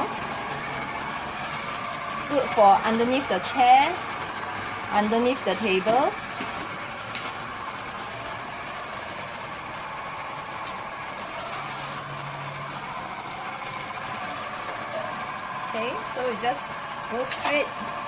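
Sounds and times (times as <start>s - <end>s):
floor sweeper motor humming: 0.0s - 18.0s.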